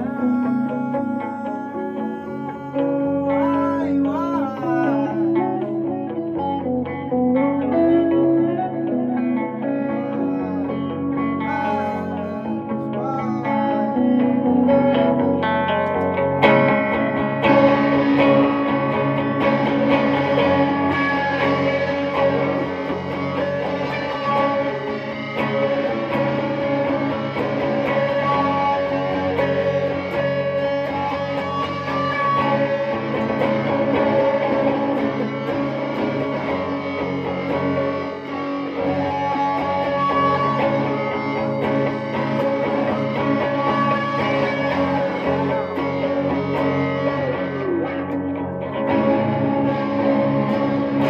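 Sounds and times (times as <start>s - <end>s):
electric guitar playing: 0.0s - 51.0s.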